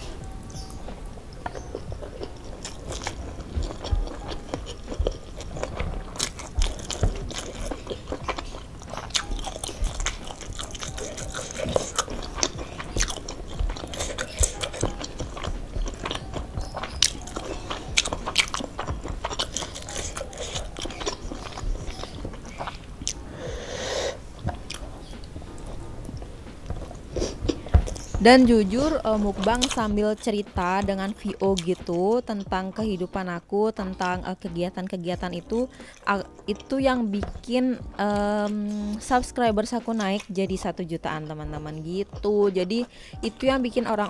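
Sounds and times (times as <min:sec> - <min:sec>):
chewing and crunching food: 0:00.0 - 0:44.0.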